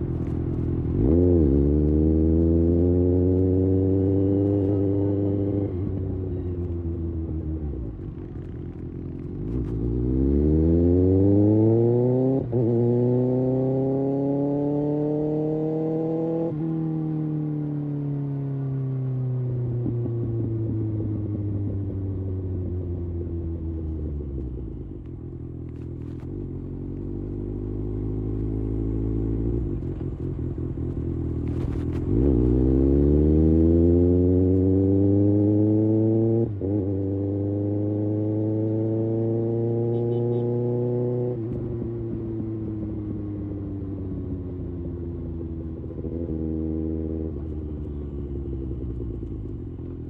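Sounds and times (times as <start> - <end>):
motorcycle engine revving: 0.0 - 18.4, 19.1 - 50.0.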